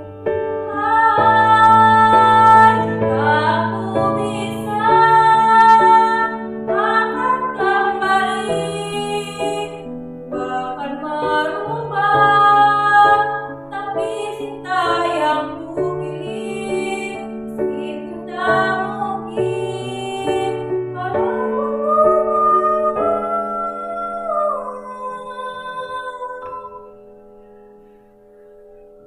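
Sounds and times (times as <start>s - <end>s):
girl singing: 0.7s - 9.8s, 10.4s - 27.0s.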